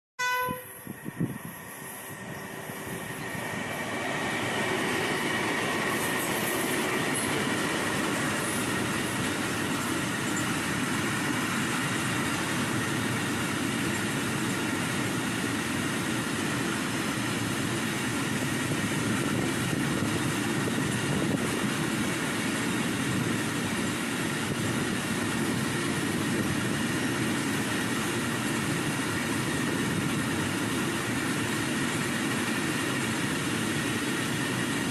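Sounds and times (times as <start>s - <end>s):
freight train wheels rumbling: 0.2s - 34.9s.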